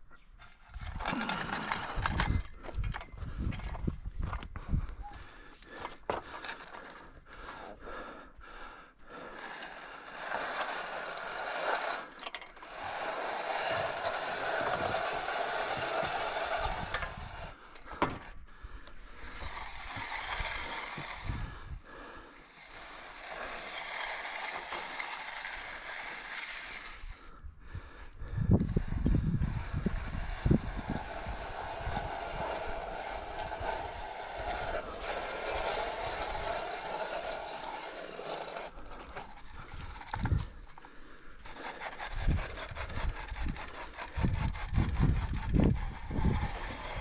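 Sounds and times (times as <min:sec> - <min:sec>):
hand tool scraping concrete: 0:00.4 - 0:04.5, 0:05.1 - 0:07.8, 0:09.1 - 0:18.4, 0:19.0 - 0:47.0.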